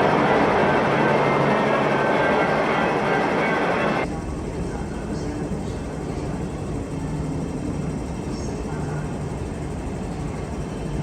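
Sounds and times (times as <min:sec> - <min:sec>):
metro train rumble and hum: 0:00.0 - 0:11.0.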